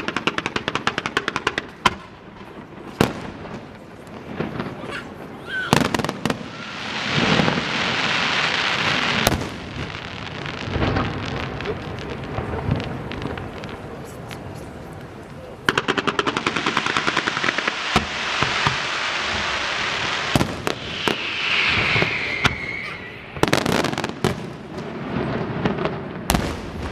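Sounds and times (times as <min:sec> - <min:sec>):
fireworks cracking and banging: 0:00.0 - 0:26.9
firework rushing hiss: 0:02.8 - 0:14.8, 0:15.6 - 0:26.9.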